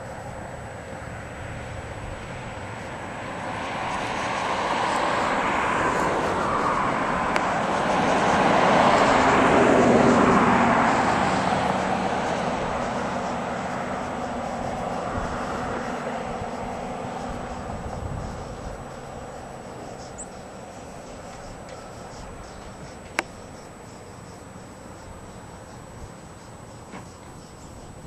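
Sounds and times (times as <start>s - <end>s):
vehicle passing: 0.0s - 28.0s.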